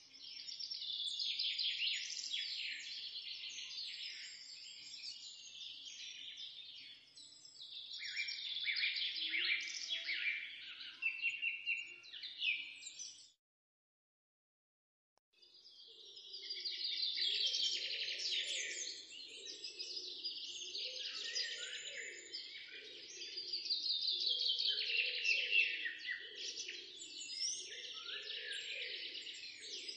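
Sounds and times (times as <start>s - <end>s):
birds chirping and trilling: 0.1s - 13.4s, 15.4s - 29.9s.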